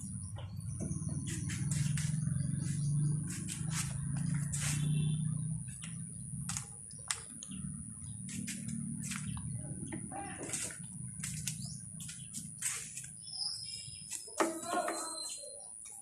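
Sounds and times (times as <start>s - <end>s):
steady low hum: 0.0s - 14.1s.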